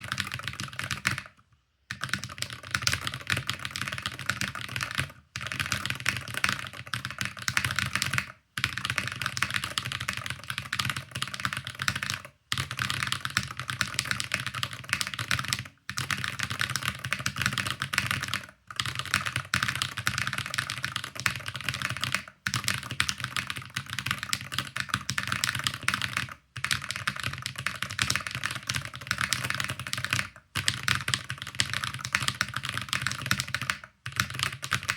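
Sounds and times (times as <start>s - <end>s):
fast keyboard typing: 0.0s - 34.9s.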